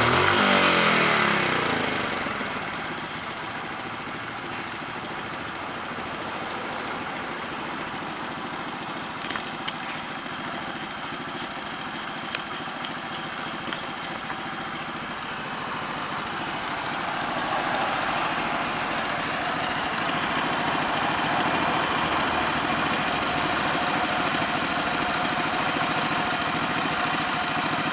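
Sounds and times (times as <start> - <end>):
small motorcycle engine idling: 0.0 - 27.9.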